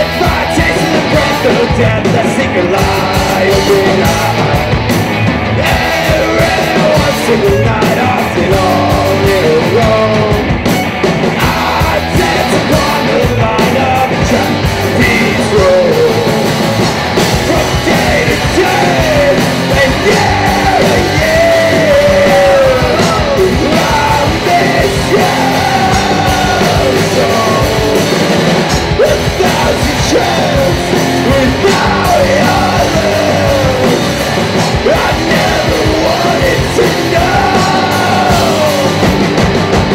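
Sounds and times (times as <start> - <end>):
live rock band playing: 0.0 - 39.9
shouted vocals: 5.5 - 10.4, 11.3 - 16.6, 17.3 - 39.9.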